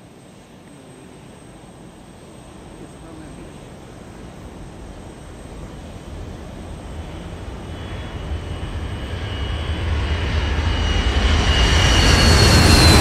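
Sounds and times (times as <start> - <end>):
airplane engine with high whine: 0.0 - 13.0.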